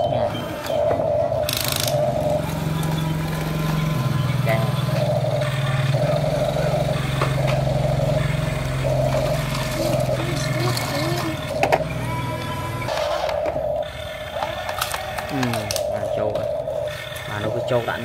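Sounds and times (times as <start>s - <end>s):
toy motor hum and whine: 0.0s - 18.0s.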